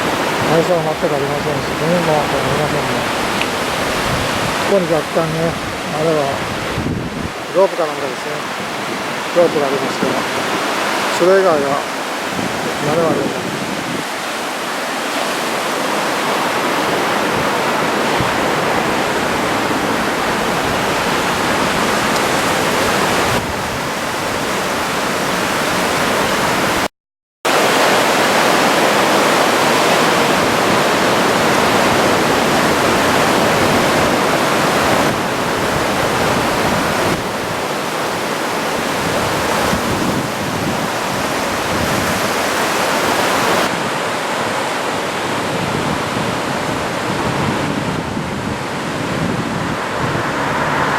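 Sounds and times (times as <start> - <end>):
waves breaking on beach: 0.0 - 26.9, 27.5 - 50.9.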